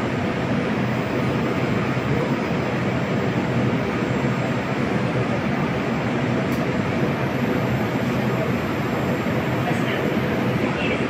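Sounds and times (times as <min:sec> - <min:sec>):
metro train rumbling: 0:00.0 - 0:11.0.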